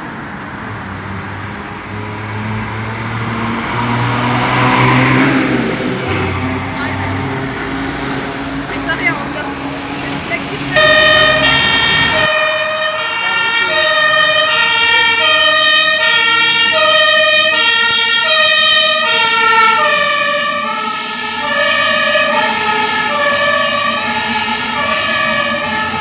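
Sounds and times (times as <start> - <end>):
truck engine rumble: 0.0 - 26.0
two-tone fire engine sirens: 1.0 - 26.0.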